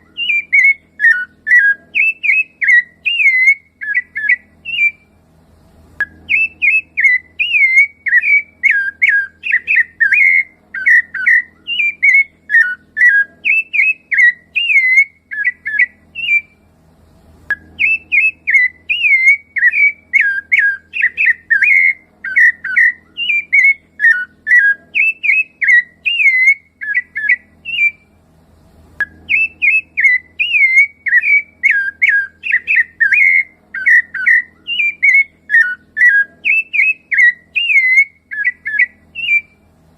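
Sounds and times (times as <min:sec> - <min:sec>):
thrush singing whistled phrases: 0:00.0 - 0:05.1, 0:06.1 - 0:16.7, 0:17.5 - 0:28.1, 0:29.3 - 0:39.6.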